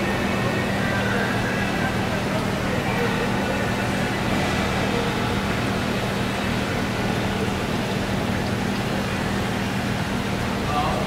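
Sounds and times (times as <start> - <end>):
churning water rushing: 0.0 - 11.0.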